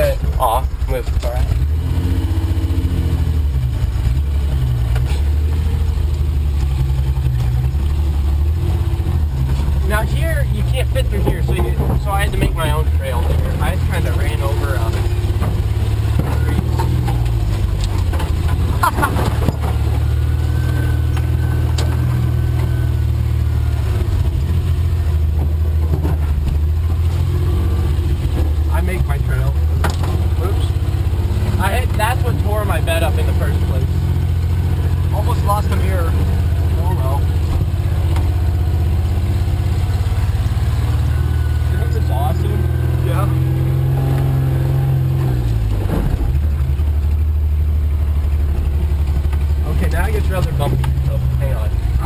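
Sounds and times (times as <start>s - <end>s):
truck engine droning at low revs: 0.0s - 52.0s.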